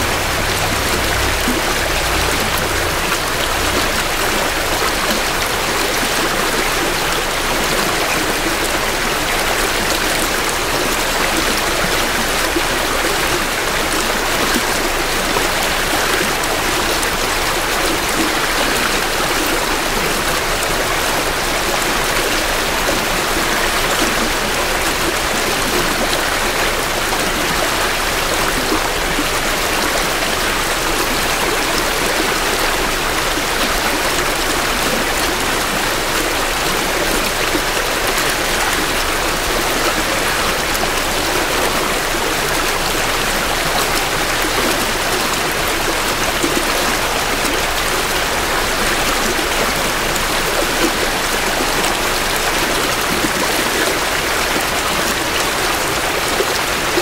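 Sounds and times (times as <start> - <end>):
creek water flowing over rocks: 0.0 - 57.0.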